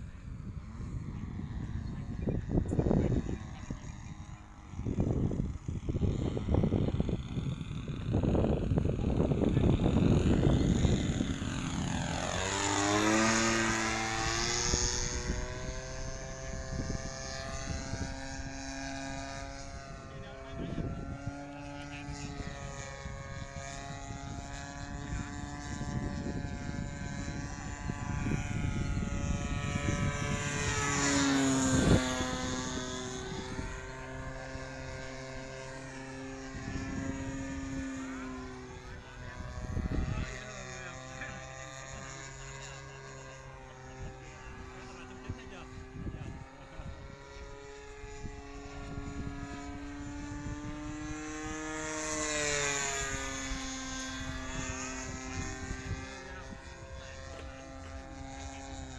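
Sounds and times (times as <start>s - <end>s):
model plane engine in flight: 0.0s - 58.9s.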